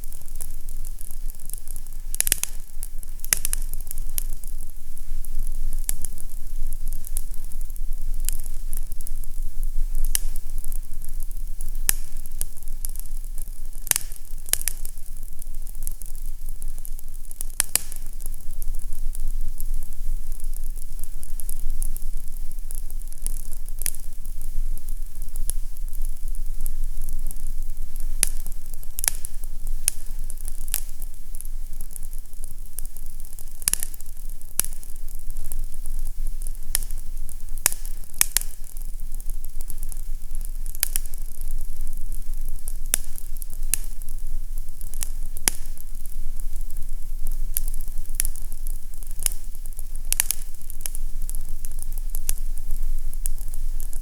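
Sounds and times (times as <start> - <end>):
fireplace crackling: 0.0 - 54.0
low steady hum: 0.0 - 54.0.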